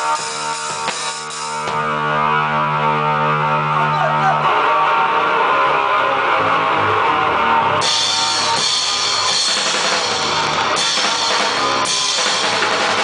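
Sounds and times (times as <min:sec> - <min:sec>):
noisy metal band music: 0:00.0 - 0:13.0.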